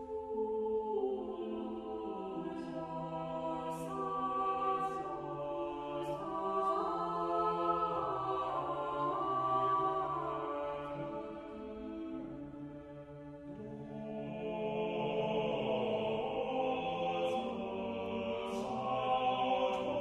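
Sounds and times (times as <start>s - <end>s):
choir singing slow chords: 0.0s - 20.0s.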